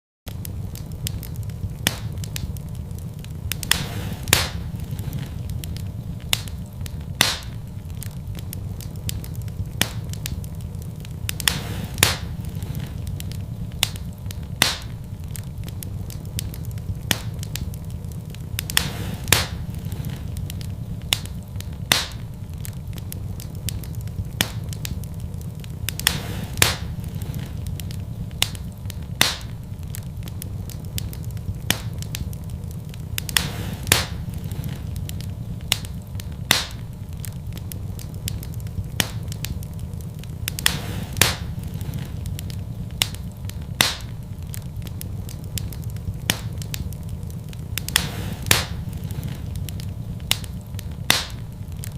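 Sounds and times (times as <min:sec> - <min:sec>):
steady low rush: 0:00.3 - 0:51.9
wood fire crackling and popping: 0:00.3 - 0:51.9.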